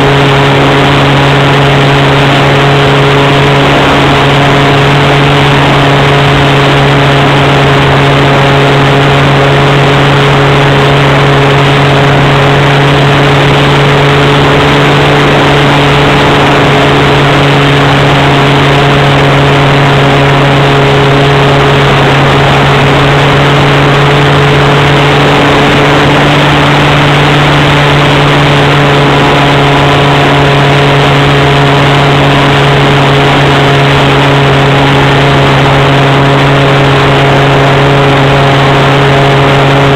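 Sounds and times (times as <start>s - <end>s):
model plane engine at high throttle: 0.0s - 39.9s.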